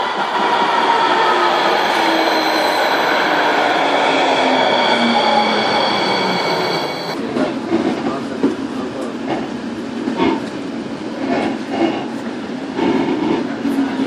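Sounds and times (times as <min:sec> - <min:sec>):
light rail car whine: 0:00.0 - 0:14.0.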